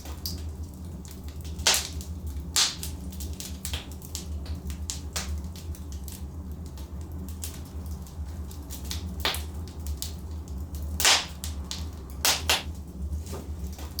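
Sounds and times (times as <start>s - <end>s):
burning logs popping: 0.0s - 14.0s
low rumble of flames: 0.0s - 14.0s.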